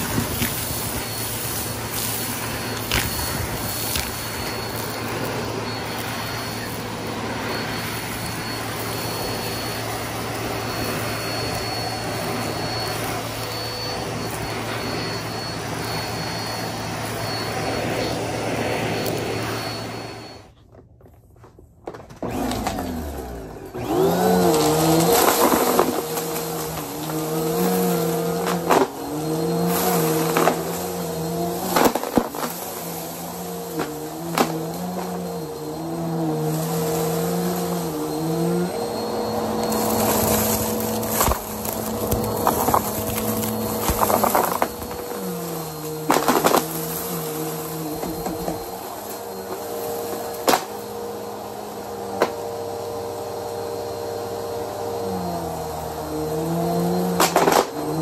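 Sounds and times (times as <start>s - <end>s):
motor hum shifting pitch: 0.0s - 20.5s, 22.2s - 58.0s
vacuum cleaner running: 0.0s - 20.7s, 21.9s - 58.0s.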